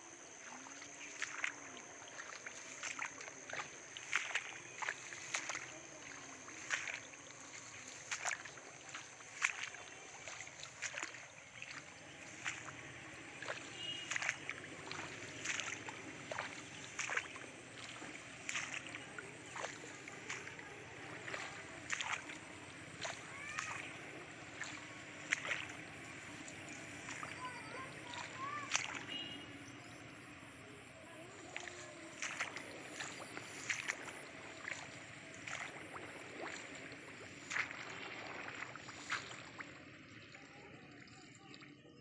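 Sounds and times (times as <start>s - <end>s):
splashing steps through wet plants: 0.4s - 29.6s, 31.3s - 40.4s.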